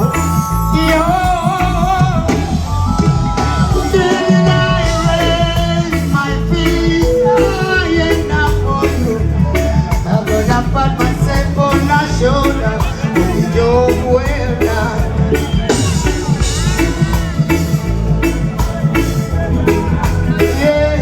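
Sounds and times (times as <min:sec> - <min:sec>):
music with singing over beat: 0:00.0 - 0:21.0.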